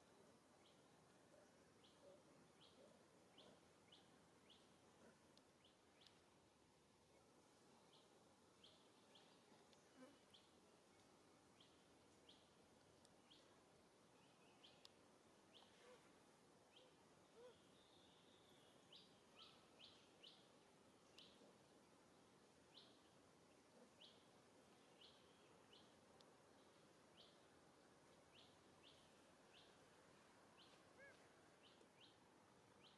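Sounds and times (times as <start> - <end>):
faint hiss: 0.0 - 32.9.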